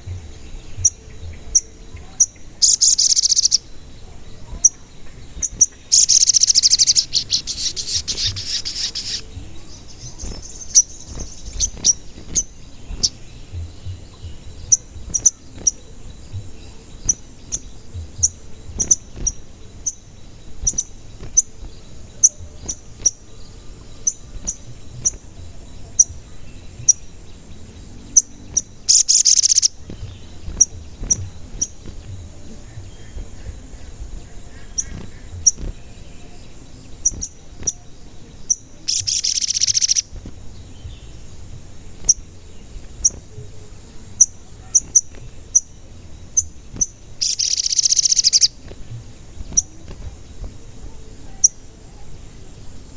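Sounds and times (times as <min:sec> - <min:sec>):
bird chirping: 0:00.0 - 0:52.9
harsh buzzy bird calls: 0:00.0 - 0:52.9.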